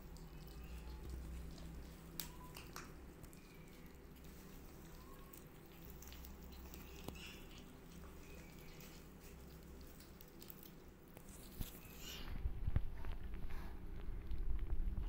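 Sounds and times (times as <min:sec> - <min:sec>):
kittens crunching dry food: 0:00.0 - 0:15.0.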